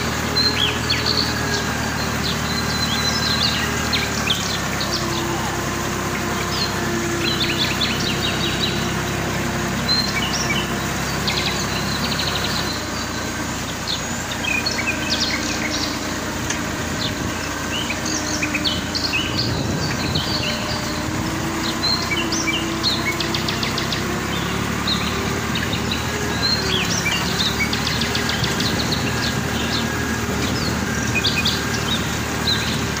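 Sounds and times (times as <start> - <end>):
small birds chirping: 0.0 - 33.0
tractor engine droning: 0.0 - 33.0.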